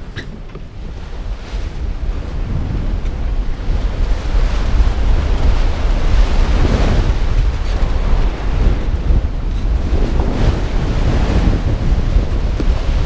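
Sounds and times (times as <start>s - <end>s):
waves splashing along hull: 0.0s - 13.0s
wind buffeting microphone: 0.0s - 13.0s.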